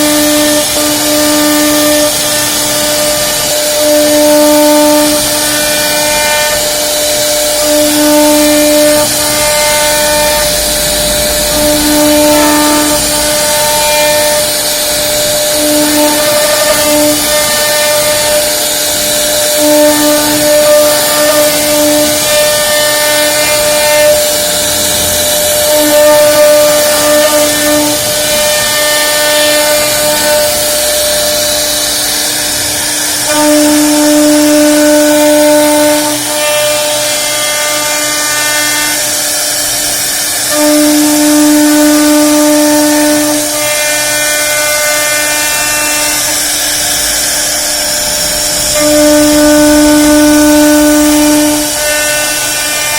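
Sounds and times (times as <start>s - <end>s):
hiss of cutting: 0.0s - 52.9s
router spindle whine: 0.0s - 52.9s.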